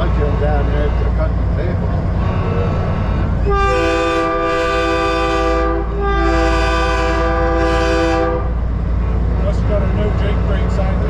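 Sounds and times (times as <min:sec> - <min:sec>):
diesel engine rumble: 0:00.0 - 0:11.0
train horn chord: 0:02.1 - 0:11.0.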